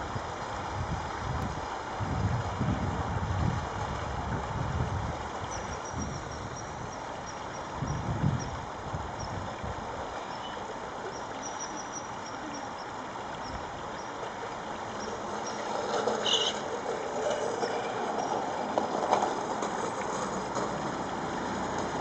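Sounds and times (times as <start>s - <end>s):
river flowing: 0.0s - 22.0s.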